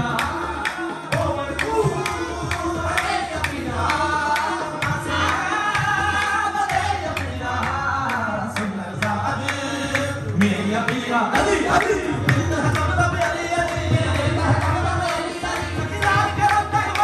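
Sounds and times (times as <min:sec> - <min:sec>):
tabla drumming: 0:00.0 - 0:17.0
voices singing: 0:00.0 - 0:17.0.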